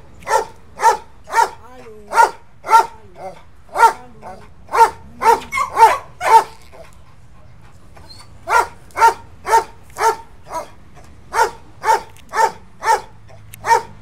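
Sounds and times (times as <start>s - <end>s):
large dog barking: 0.2s - 7.0s, 8.0s - 14.0s.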